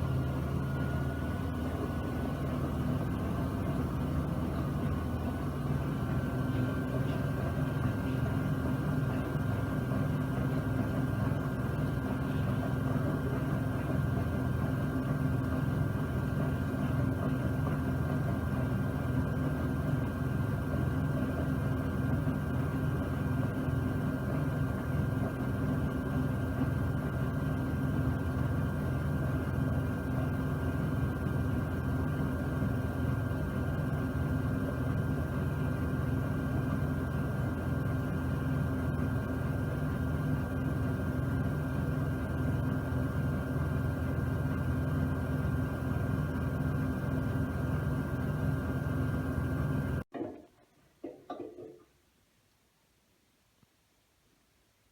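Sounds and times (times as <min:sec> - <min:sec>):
washing machine spinning: 0:00.1 - 0:50.1.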